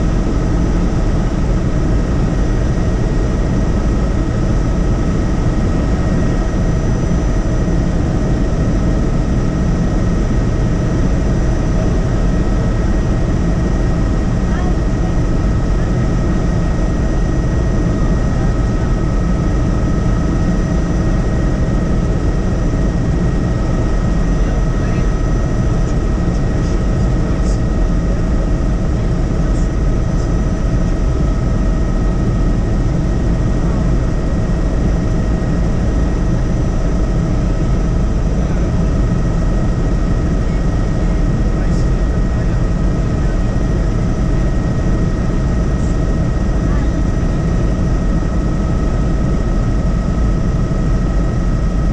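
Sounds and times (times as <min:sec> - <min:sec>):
helicopter rotor and engine rumble: 0:00.0 - 0:51.9
thin steady whine: 0:00.0 - 0:51.9.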